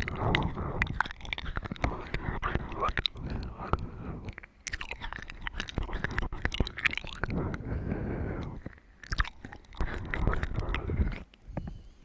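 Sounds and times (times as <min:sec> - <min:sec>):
wet chewing and mouth sounds: 0:00.0 - 0:11.8.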